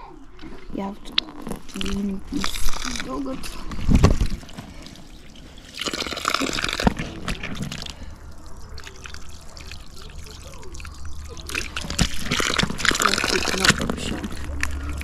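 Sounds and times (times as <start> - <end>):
water running from tap: 1.7 - 15.0
water splashing into puddle: 1.7 - 15.0.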